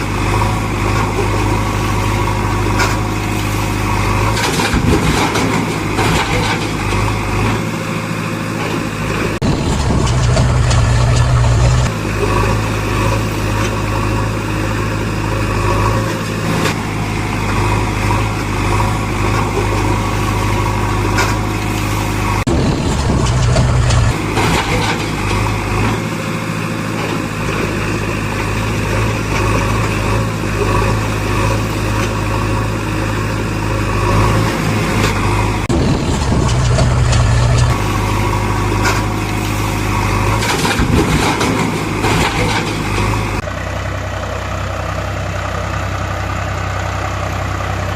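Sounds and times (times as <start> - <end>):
backhoe loader engine humming: 0.0 - 47.9.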